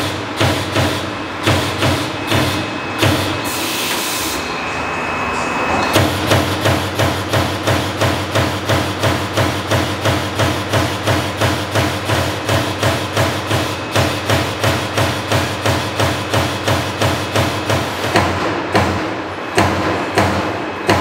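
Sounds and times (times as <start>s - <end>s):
punch machine striking sheet metal: 0.0s - 3.6s, 5.9s - 21.0s
steady machine hum: 0.0s - 21.0s.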